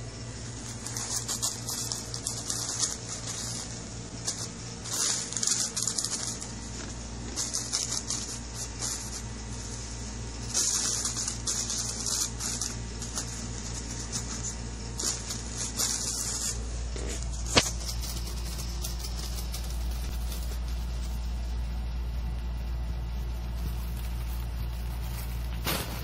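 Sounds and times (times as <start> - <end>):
fingers scratching nylon fabric: 0.6 - 21.4, 23.0 - 25.7.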